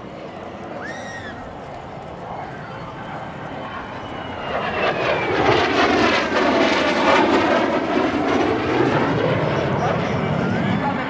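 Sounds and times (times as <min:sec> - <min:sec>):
jet engines passing overhead: 0:00.0 - 0:11.0.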